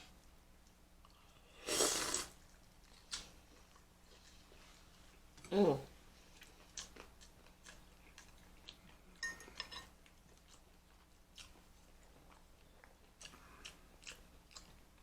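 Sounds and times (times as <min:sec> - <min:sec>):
quiet chewing: 0:00.0 - 0:05.5, 0:06.1 - 0:15.0.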